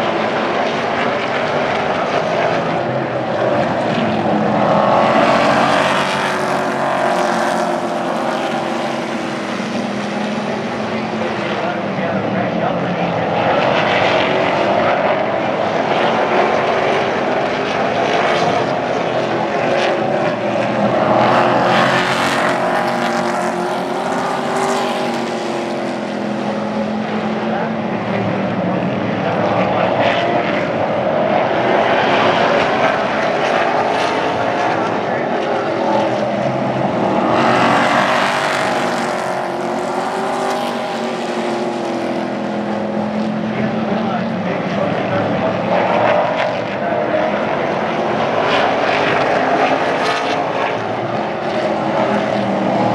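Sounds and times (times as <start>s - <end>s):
race truck engines droning: 0.0s - 52.9s.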